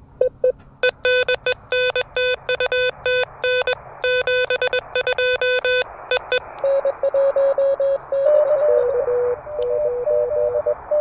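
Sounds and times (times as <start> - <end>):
morse code beeping tone: 0.8 - 11.0
receiver hiss: 0.8 - 11.0.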